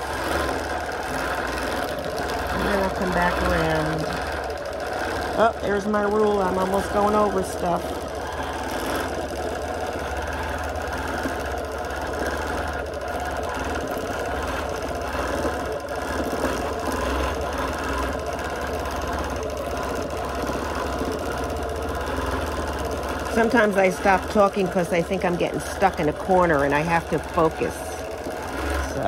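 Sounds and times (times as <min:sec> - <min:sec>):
quilting machine stitching: 0:00.0 - 0:29.0.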